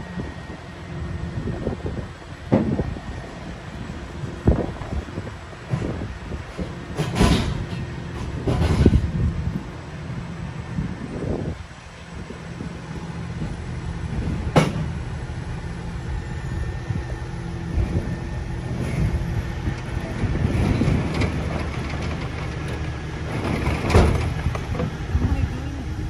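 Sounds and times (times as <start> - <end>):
crane engine running: 0.0 - 26.0.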